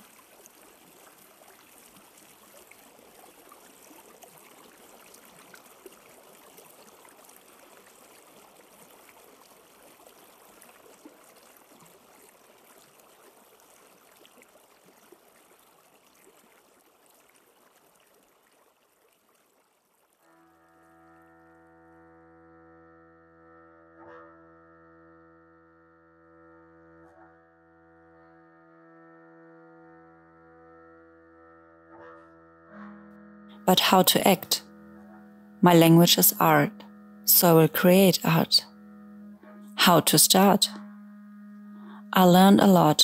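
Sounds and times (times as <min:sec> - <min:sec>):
faint running water: 0:00.0 - 0:26.1, 0:27.1 - 0:43.0.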